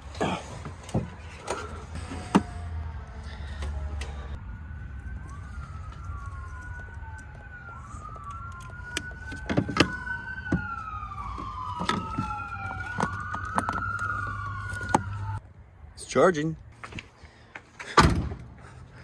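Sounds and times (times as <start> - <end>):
emergency sirens wailing: 0.0 - 15.5.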